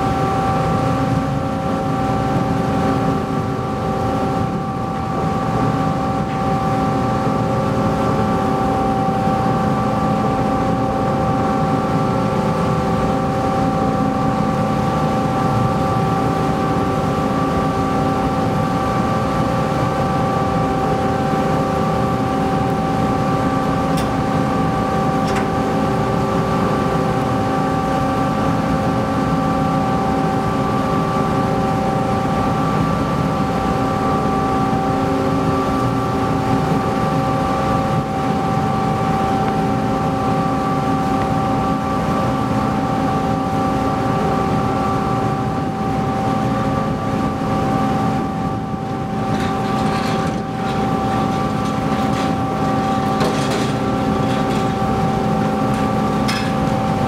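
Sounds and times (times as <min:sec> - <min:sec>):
ferry engines droning: 0:00.0 - 0:57.0.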